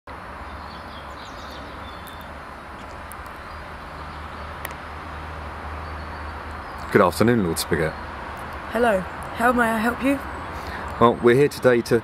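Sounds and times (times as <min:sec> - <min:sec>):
faint birds chirping: 0:00.2 - 0:12.0.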